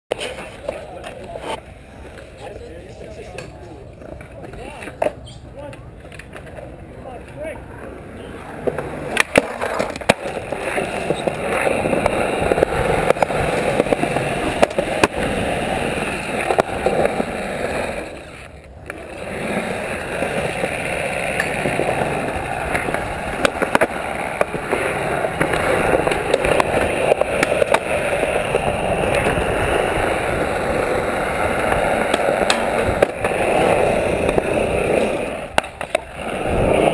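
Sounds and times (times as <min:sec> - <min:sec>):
skateboard clacks: 0:00.1 - 0:36.9
skateboard wheels rolling on concrete: 0:00.1 - 0:36.9.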